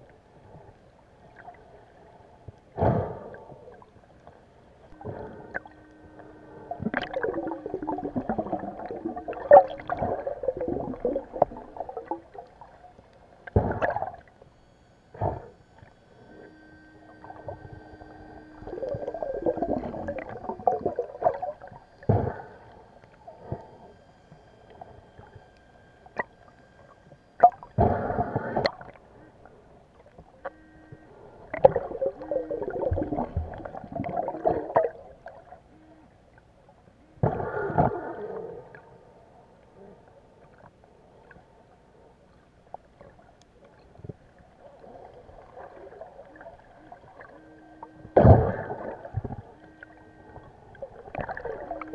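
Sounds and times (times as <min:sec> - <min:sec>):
underwater gurgling and bubbling: 0:00.0 - 0:14.4, 0:15.0 - 0:51.9.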